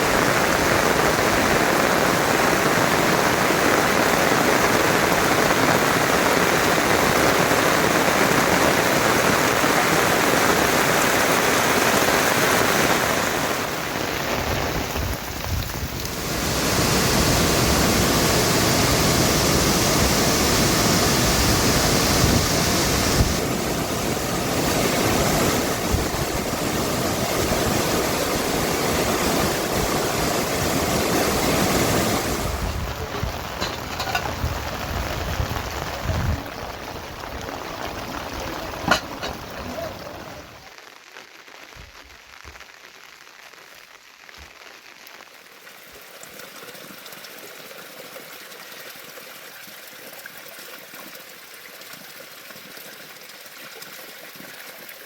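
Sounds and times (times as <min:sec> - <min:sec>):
running water: 0:00.0 - 0:43.6, 0:44.2 - 0:55.0
rain: 0:00.0 - 0:55.0.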